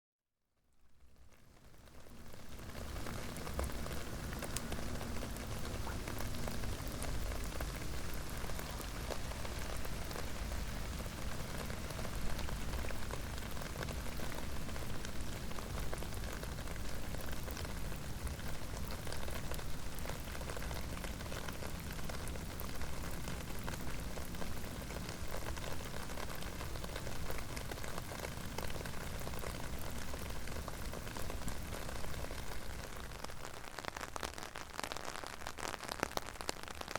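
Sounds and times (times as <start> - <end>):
steady rain falling: 0.8 - 36.9.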